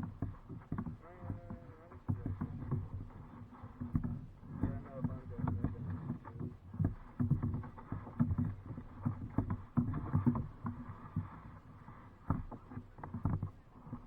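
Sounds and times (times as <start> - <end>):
paddle knocking against kayak hull: 0.0 - 14.0.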